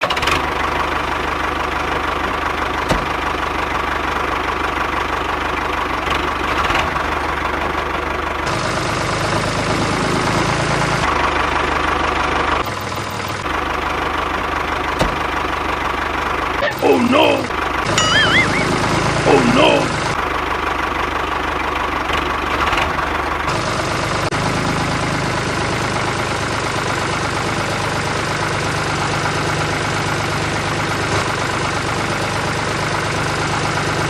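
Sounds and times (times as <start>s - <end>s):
tractor engine idling: 0.4s - 17.9s, 18.5s - 34.0s.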